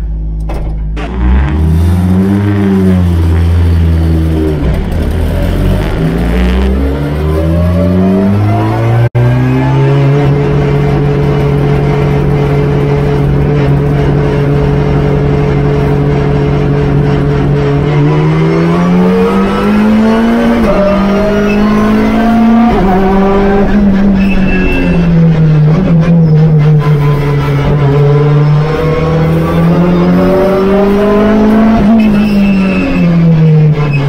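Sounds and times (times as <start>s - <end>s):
race car engine revving: 0.9s - 34.0s.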